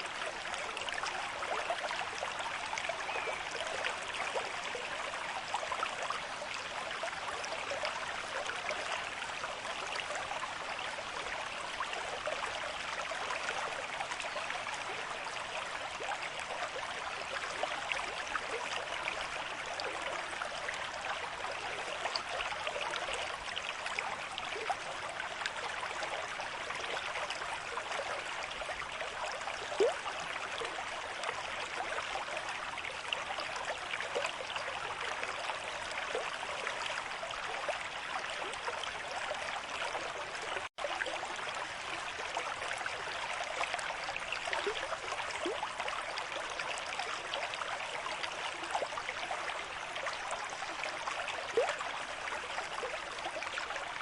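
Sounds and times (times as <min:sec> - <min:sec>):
river stream flowing: 0:00.0 - 0:54.0.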